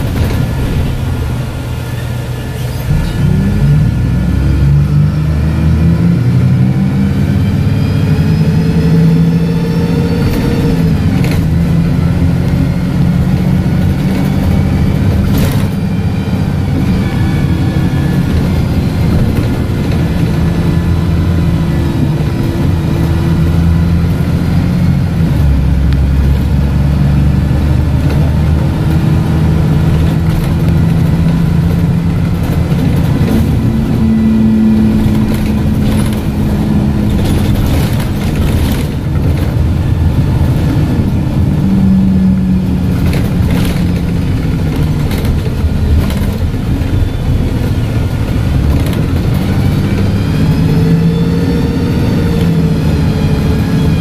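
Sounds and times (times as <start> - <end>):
bus diesel engine: 0.0 - 54.0
loud gearbox whine: 0.0 - 54.0.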